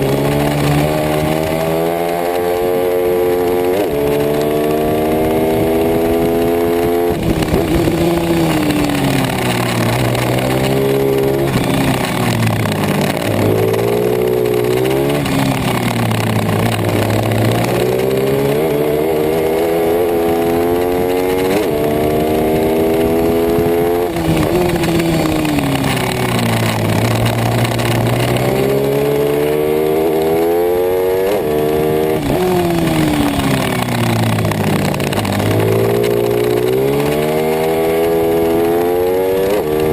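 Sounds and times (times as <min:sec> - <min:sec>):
motorbike engine at full throttle: 0:00.0 - 0:39.9.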